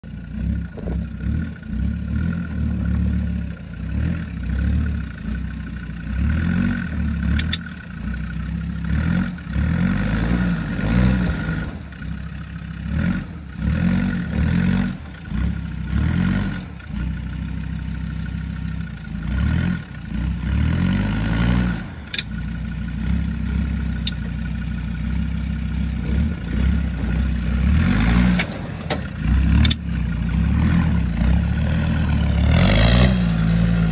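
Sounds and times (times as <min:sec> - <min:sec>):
diesel engine revving: 0:00.0 - 0:33.9.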